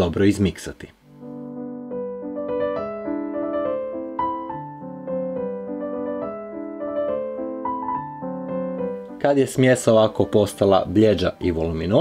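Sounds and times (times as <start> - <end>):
piano music: 0.2 - 12.0.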